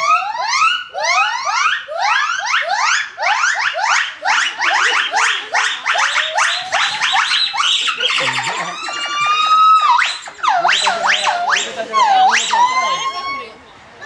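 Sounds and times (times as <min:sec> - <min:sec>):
gibbons whooping: 0:00.0 - 0:13.6.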